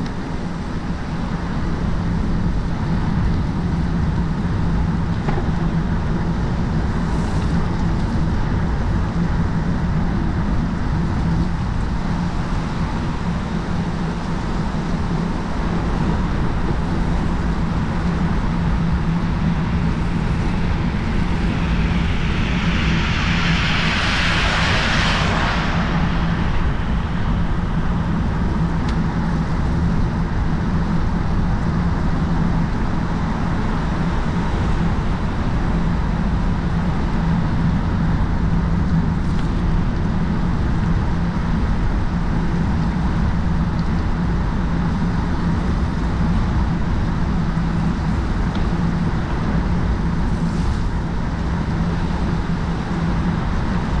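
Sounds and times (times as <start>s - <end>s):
steady low hum: 0.0s - 54.0s
wind rumble on camera: 0.0s - 54.0s.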